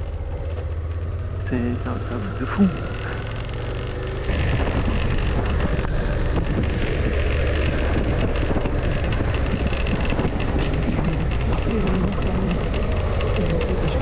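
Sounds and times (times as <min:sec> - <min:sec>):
heavy wind noise: 0:00.0 - 0:14.0
motorcycle engine: 0:00.0 - 0:14.0.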